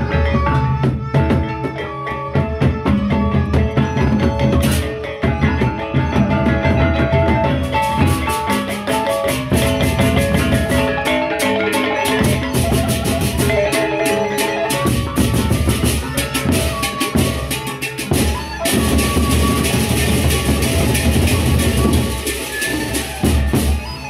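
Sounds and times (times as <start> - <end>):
barrel drums beaten fast: 0.0 - 24.0
ringing gongs and cymbals: 4.0 - 24.0.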